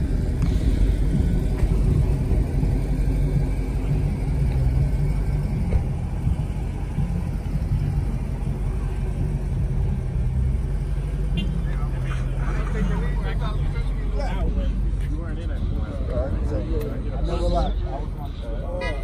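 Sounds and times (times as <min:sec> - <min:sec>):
car engine rumble: 0:00.0 - 0:19.0
road noise inside car: 0:00.0 - 0:19.0.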